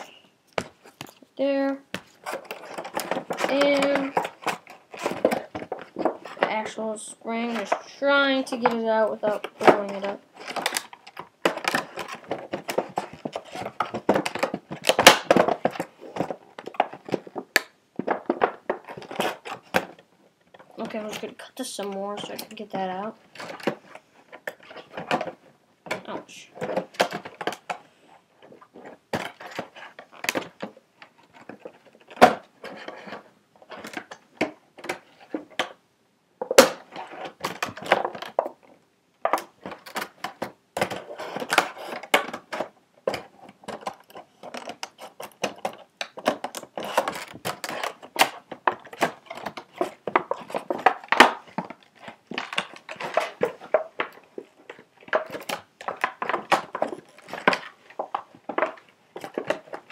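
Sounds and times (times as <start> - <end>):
packaging crinkling and rustling: 1.9 - 35.8, 36.4 - 59.9.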